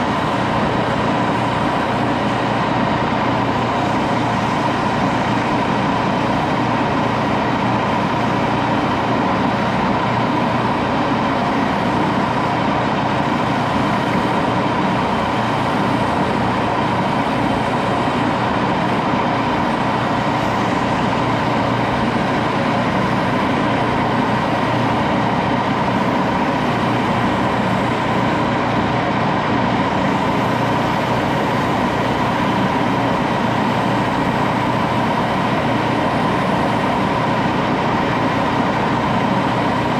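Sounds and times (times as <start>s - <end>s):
metal lathe humming and whining: 0.0s - 39.9s.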